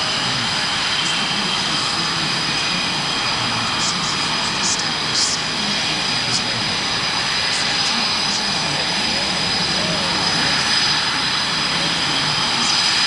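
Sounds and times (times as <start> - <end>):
high turbine whine: 0.0 - 13.0
jet engines roaring: 0.0 - 13.0.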